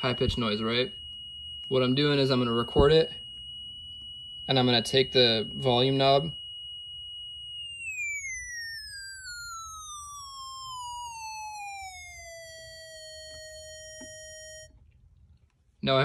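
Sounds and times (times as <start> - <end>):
high-pitched feedback whistle: 0.0 - 14.7.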